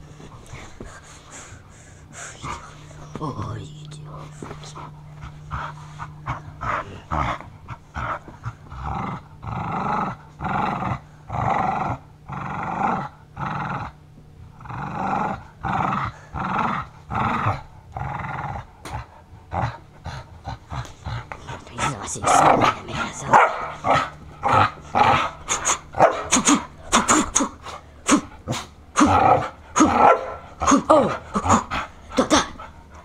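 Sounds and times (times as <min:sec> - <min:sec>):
dog growling: 0:00.0 - 0:33.0.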